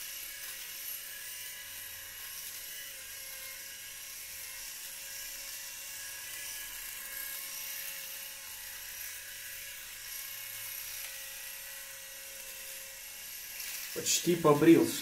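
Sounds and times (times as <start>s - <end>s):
electric shaver whining: 0.0s - 15.0s.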